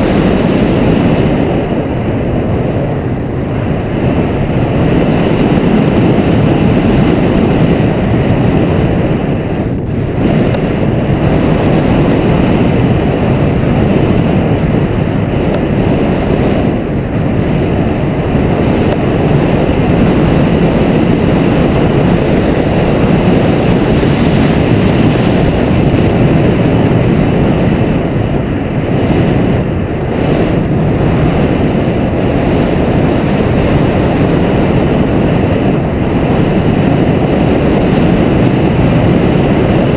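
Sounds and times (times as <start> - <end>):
airflow buffeting microphone: 0.0 - 39.9.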